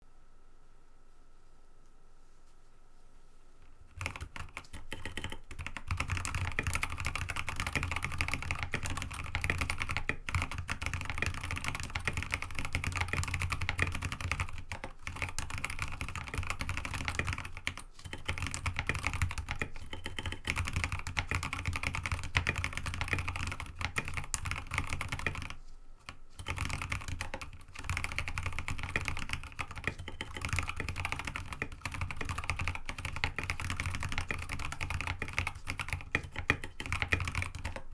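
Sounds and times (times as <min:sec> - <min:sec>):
typing on mechanical keyboard: 0:03.9 - 0:37.9.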